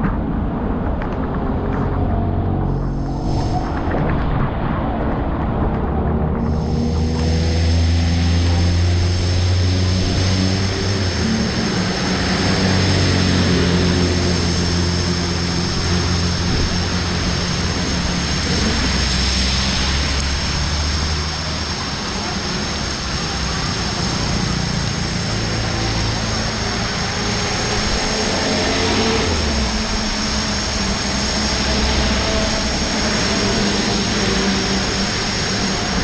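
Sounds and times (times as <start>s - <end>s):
heavy rain falling: 0.0s - 36.0s
vehicles driving through water: 0.2s - 36.0s.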